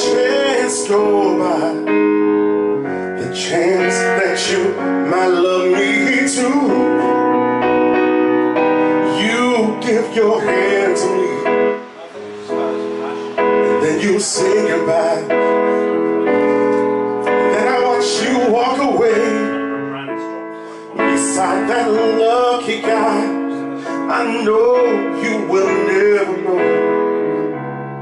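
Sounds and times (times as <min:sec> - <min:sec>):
man singing a slow ballad: 0:00.0 - 0:07.4, 0:08.7 - 0:27.6
electric keyboard chords: 0:00.0 - 0:28.0.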